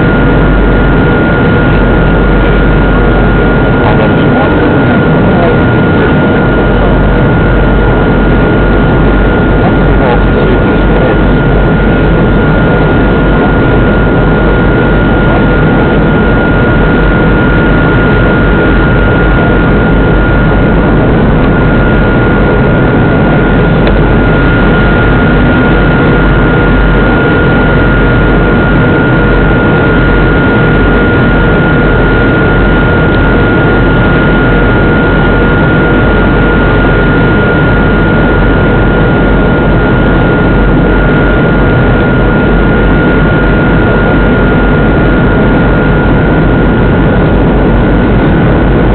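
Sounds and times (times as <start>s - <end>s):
jet engines rushing and whining: 0.0s - 48.9s.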